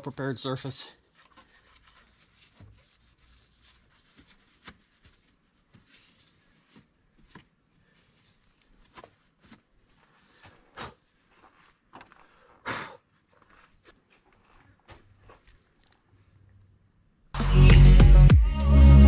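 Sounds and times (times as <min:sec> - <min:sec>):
hand-handling rustling: 0:01.0 - 0:16.4.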